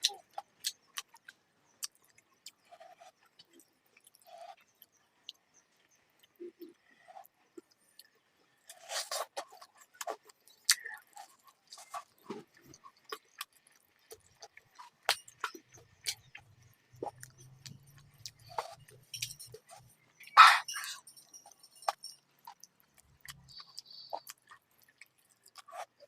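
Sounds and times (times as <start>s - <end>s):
person chewing: 0.0s - 5.4s, 6.1s - 21.1s, 21.8s - 26.0s.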